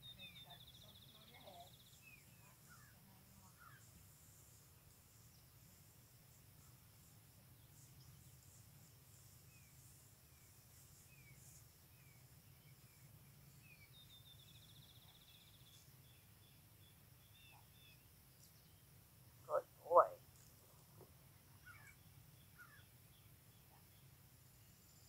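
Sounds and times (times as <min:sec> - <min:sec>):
faint birdsong chirps and trill: 0:00.0 - 0:25.0
low steady background hum: 0:00.0 - 0:25.0.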